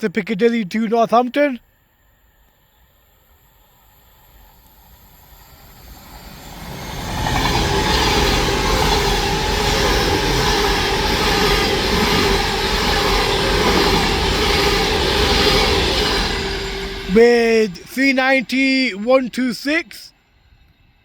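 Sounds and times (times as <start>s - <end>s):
train rushing past: 1.7s - 21.0s.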